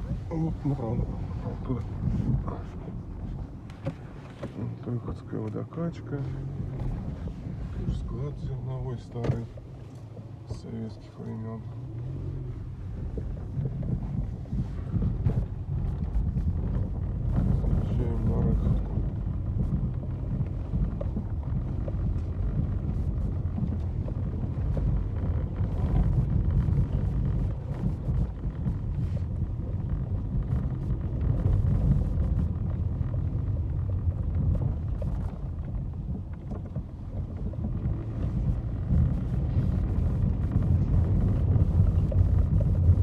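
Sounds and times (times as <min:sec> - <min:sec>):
vehicle engine and tyres rumbling: 0:00.0 - 0:43.0
wind buffeting microphone: 0:00.0 - 0:43.0.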